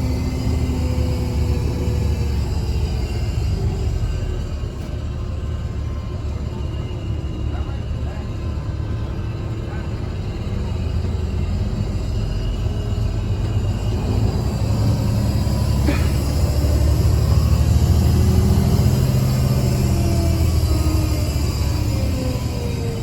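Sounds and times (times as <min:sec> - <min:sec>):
bus diesel engine rumble: 0:00.0 - 0:23.0.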